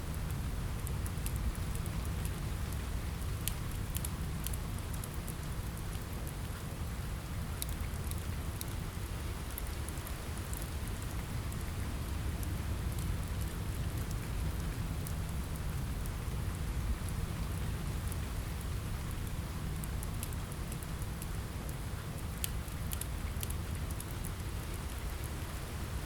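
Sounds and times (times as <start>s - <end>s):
rain on a window: 0.0s - 26.0s
wood fire crackling: 0.1s - 26.0s.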